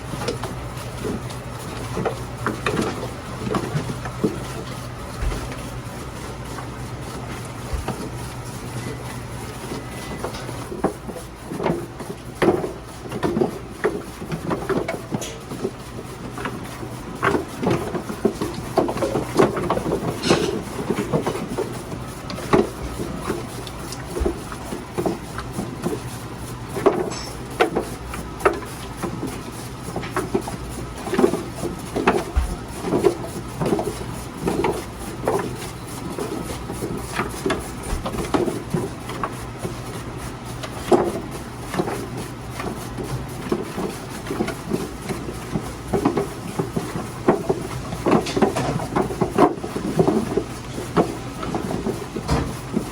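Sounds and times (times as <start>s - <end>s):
food slicing machine humming: 0.0s - 52.9s.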